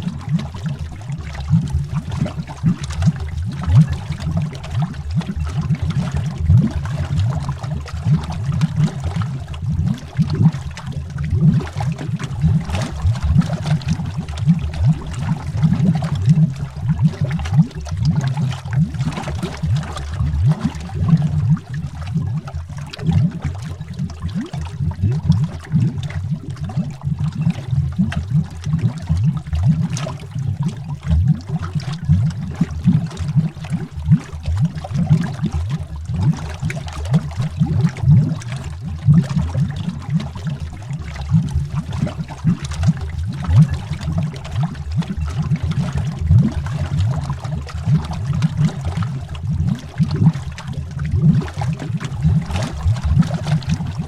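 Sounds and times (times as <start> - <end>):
underwater bubbles gurgling: 0.0 - 54.0.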